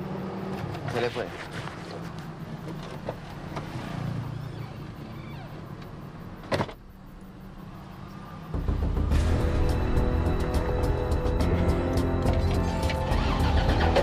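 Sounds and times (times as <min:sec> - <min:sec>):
car engine low hum: 0:00.0 - 0:14.0.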